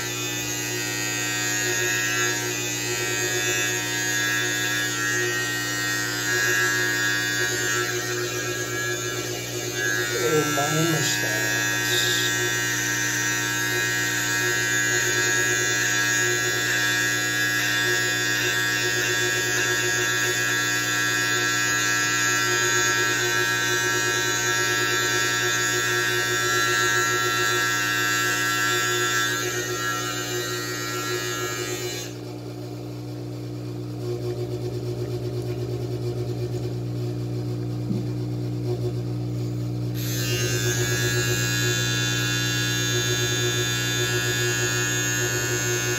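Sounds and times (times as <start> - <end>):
electric beard trimmer buzzing: 0.0 - 32.5, 37.8 - 45.9.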